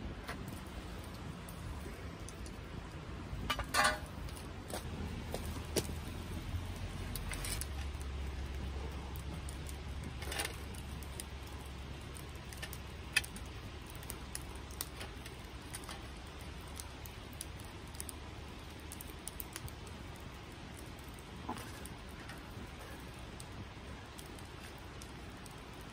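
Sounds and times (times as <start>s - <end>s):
faint low rumble: 0.0s - 25.9s
wood fire crackling and popping: 0.0s - 25.9s.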